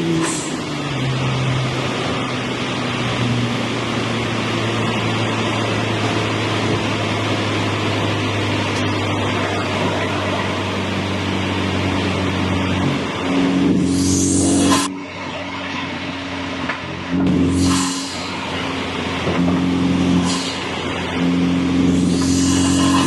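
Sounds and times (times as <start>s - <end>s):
car engine and exhaust droning: 0.0s - 23.0s
road and wind noise: 0.0s - 23.0s.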